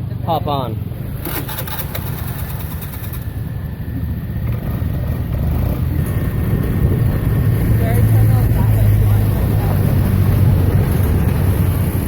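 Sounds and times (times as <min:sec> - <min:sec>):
motorbike engine humming: 0:00.0 - 0:12.0.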